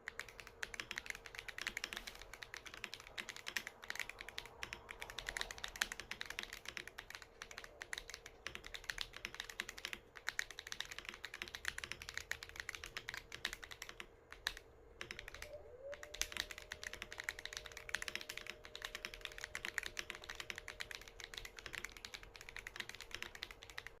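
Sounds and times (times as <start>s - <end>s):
mechanical keyboard typing: 0.0s - 24.0s.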